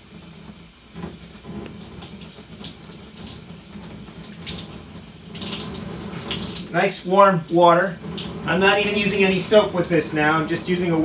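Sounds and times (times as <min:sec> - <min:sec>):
sink tap running: 0:00.0 - 0:11.0
water splashing: 0:01.0 - 0:11.0.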